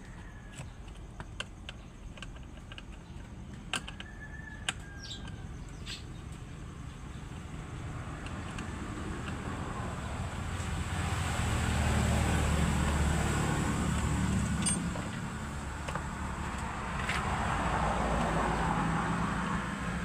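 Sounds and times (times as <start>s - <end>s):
vehicle noise: 0.0s - 20.0s.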